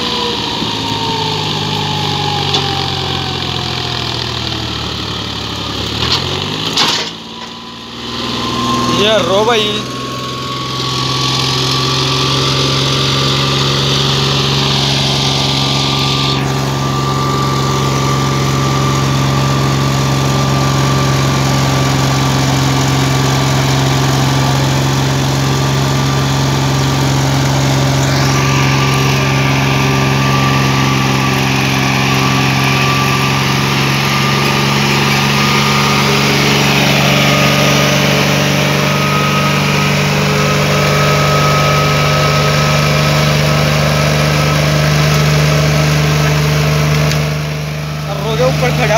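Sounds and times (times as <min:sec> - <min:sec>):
thin rising whine: 0:00.0 - 0:48.9
tractor diesel engine under load: 0:00.0 - 0:48.9.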